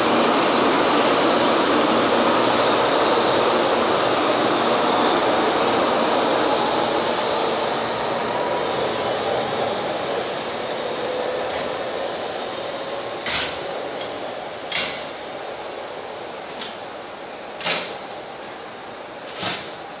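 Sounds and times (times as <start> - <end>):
faint motor whine: 0.0 - 20.0
train pulling out rushing: 0.0 - 20.0.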